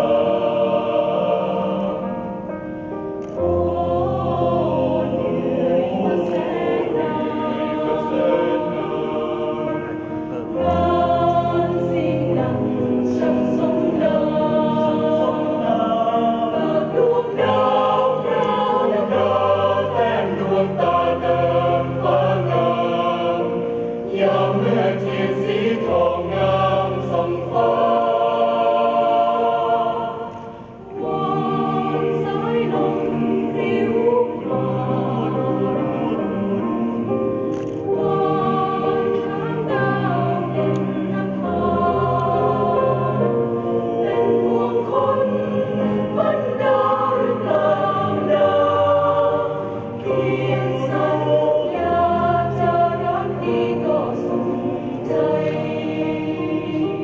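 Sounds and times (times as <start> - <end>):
choir singing long notes: 0.0 - 57.0.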